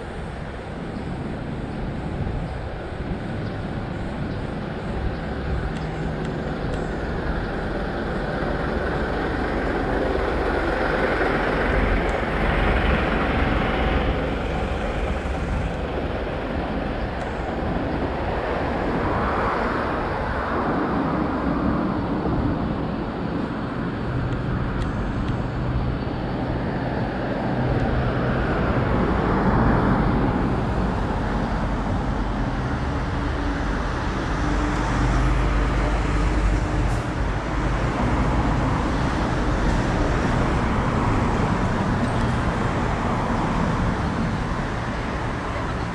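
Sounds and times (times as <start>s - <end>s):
low engine hum: 0.0s - 45.9s
vehicles passing: 0.0s - 45.9s.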